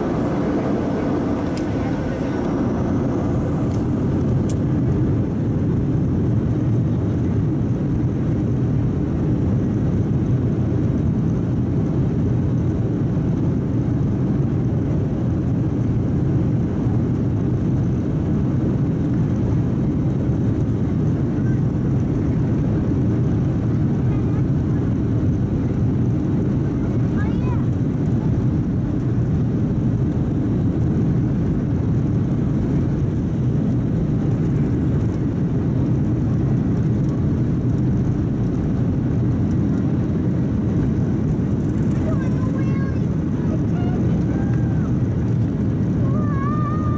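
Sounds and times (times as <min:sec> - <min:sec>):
jet engines rumbling in cabin: 0:00.0 - 0:46.9.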